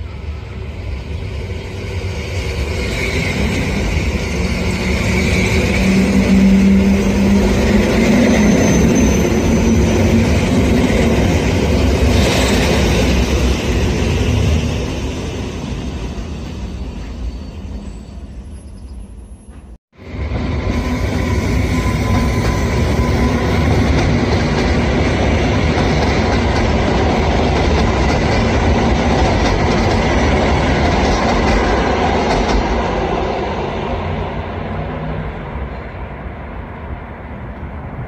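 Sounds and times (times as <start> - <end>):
electric train passing on rails: 0.0 - 38.0.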